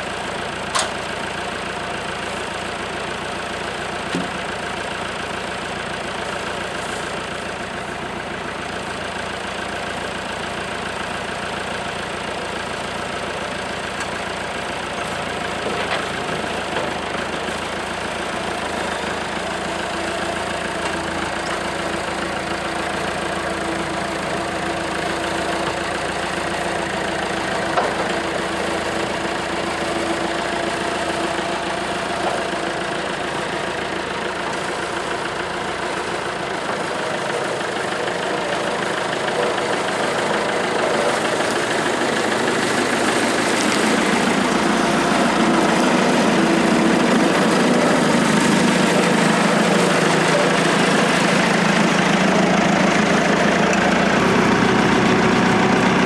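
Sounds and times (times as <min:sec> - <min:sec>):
tractor engine: 0:00.0 - 0:56.0.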